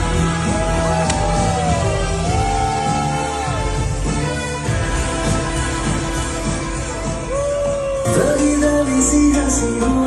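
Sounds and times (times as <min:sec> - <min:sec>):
loud pop music: 0:00.0 - 0:10.0.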